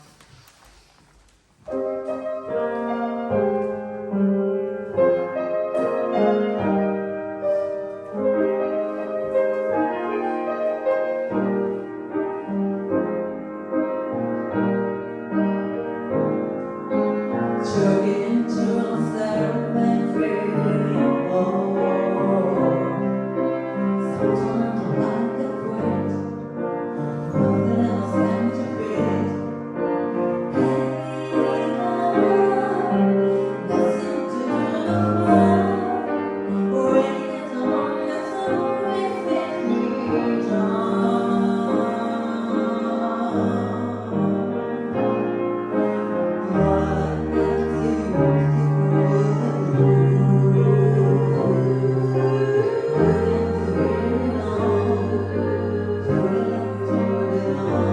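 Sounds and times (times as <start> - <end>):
piano music: 0.0 - 57.9.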